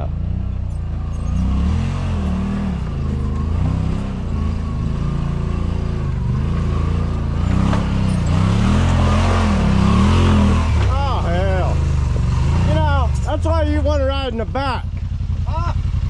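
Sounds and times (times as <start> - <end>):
utility vehicle engine revving: 0.0 - 16.0.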